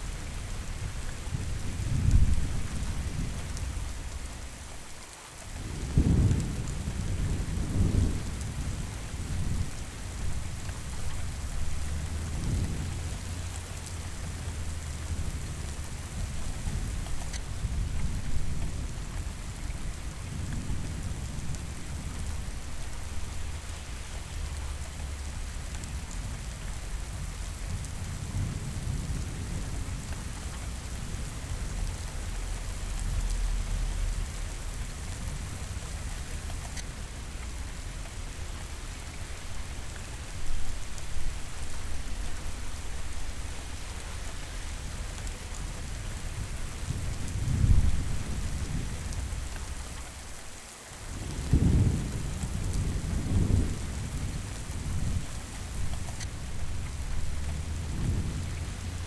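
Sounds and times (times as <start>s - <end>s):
thunder rumbling: 0.0s - 4.4s, 5.6s - 59.0s
rain hissing: 0.0s - 59.0s.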